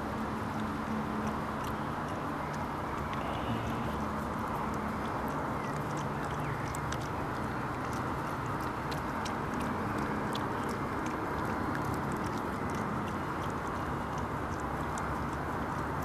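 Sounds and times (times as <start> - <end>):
fox licking and chewing: 0.0 - 16.0.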